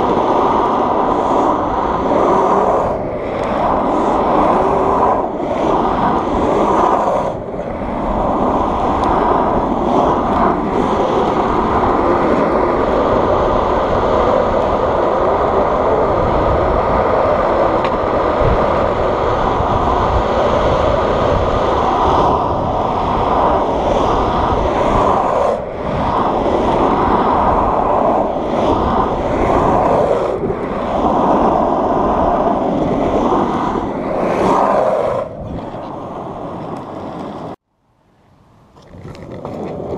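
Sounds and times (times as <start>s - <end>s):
wind buffeting microphone: 0.0s - 37.6s
skateboard wheels rolling on asphalt: 0.0s - 39.9s.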